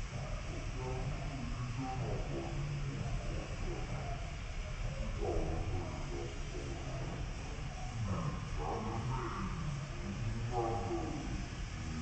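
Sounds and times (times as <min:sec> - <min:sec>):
even hiss: 0:00.0 - 0:12.0
faint voices: 0:00.0 - 0:12.0.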